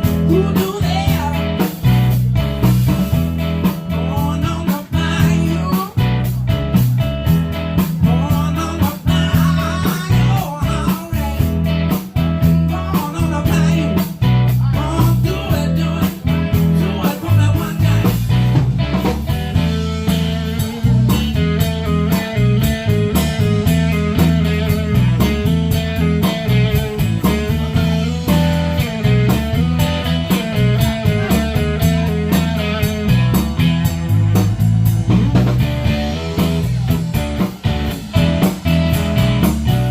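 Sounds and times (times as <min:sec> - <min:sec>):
live blues-rock band: 0:00.0 - 0:39.9.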